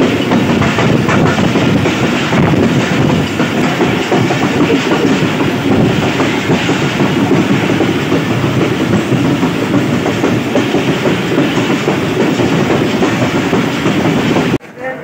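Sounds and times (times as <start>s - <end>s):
train wheels rumbling and clattering: 0.0s - 14.7s.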